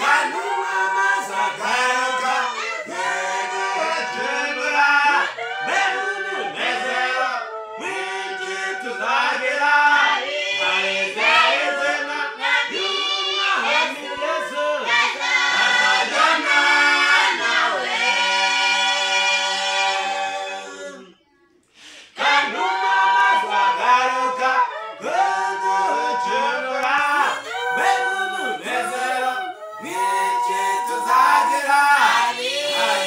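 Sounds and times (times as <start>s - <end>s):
group singing in harmony: 0.0s - 33.0s.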